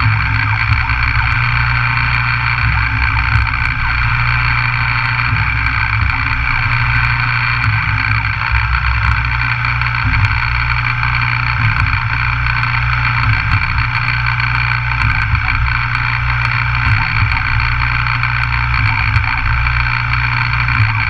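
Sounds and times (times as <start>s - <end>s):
milling machine hum and whine: 0.0s - 21.0s.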